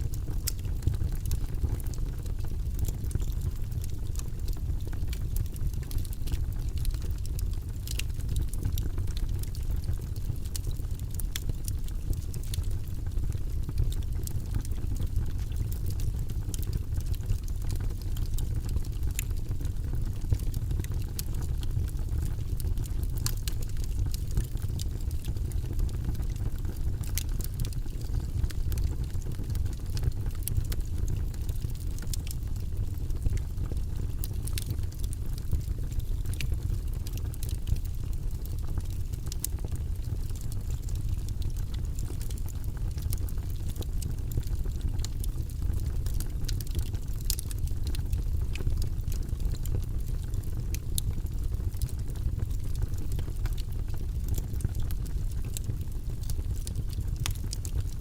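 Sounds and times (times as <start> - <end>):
fire crackles and pops: 0.0 - 58.0
fire rumbling in fireplace: 0.0 - 58.0.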